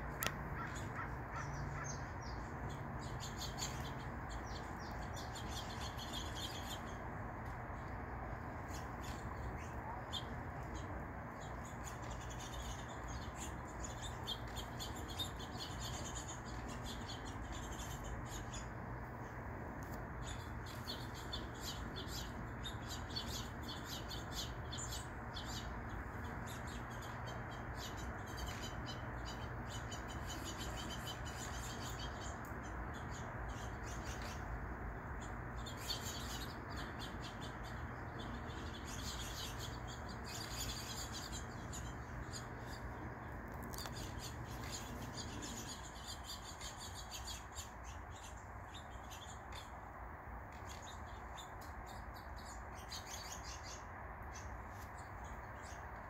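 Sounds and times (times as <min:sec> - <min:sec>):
low background noise: 0:00.0 - 0:56.0
small songbirds chirping: 0:00.0 - 0:56.0.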